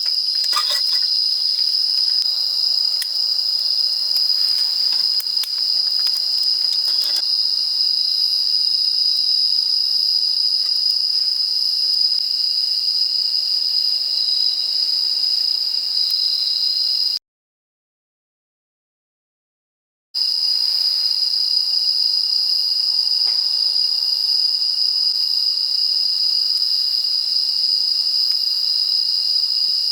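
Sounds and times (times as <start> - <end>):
crickets trilling: 0.0 - 17.2, 20.2 - 29.9.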